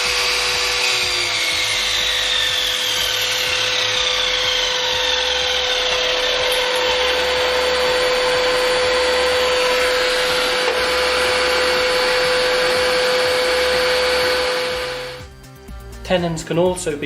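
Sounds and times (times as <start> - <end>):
saw blade cutting wood: 0.0 - 15.2
saw motor whining: 0.0 - 15.3.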